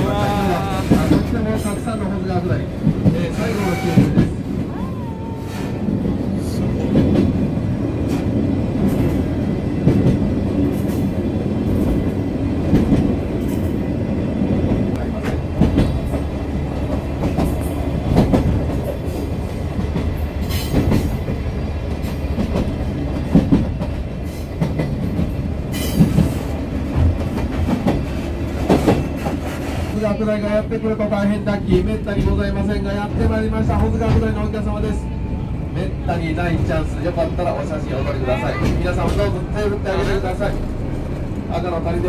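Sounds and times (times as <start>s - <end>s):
train carriage low rumble: 0.0s - 42.0s.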